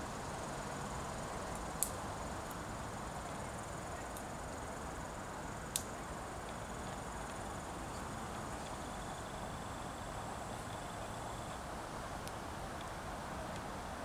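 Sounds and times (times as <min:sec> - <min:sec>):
insects humming: 0:00.0 - 0:13.9.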